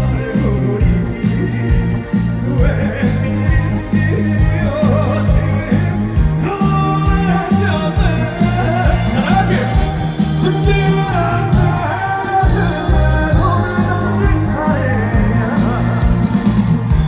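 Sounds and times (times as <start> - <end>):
man singing: 0.0 - 17.0
trot band music: 0.0 - 17.0.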